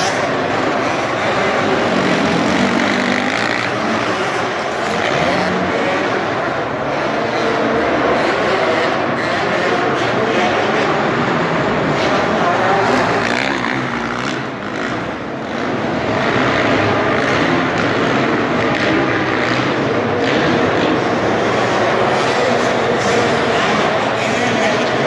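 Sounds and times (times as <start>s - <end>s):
quad bike engine revving: 0.0s - 25.0s.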